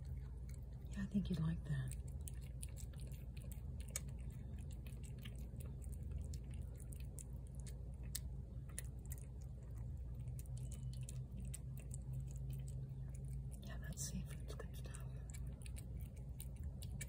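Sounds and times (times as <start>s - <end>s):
cat chewing wet food: 0.0s - 17.0s
steady low hum: 0.0s - 17.0s.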